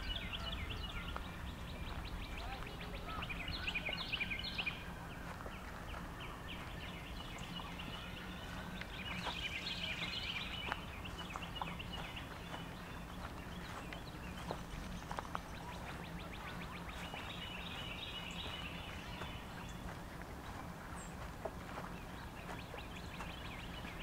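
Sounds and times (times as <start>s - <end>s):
low steady rumble: 0.0s - 24.0s
songbirds chirping and singing: 0.0s - 24.0s.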